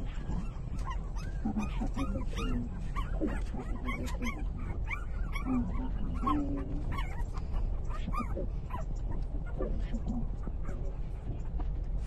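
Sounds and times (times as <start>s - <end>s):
puppies squeaking and whimpering: 0.0s - 11.6s
steady low rumble: 0.0s - 12.0s.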